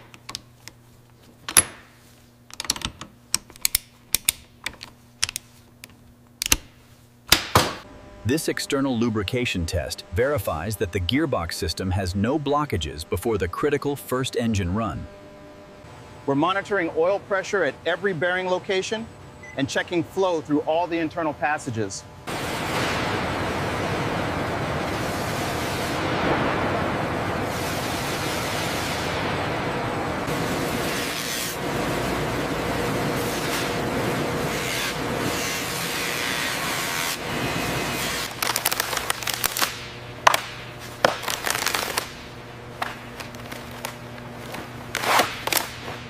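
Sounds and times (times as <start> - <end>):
low steady hum: 0.0 - 46.0.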